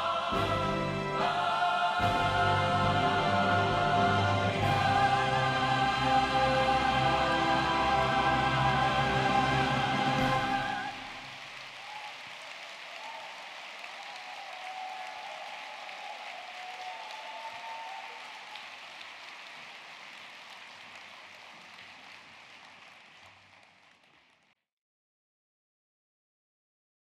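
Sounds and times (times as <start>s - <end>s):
audience applauding: 0.0s - 24.5s.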